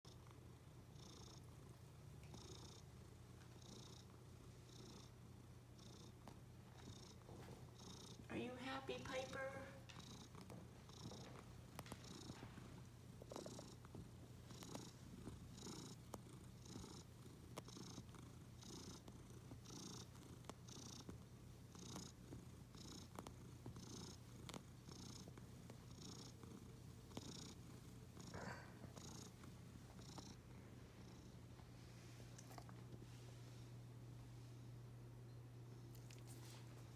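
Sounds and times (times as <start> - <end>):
cat purring: 0.1 - 34.7.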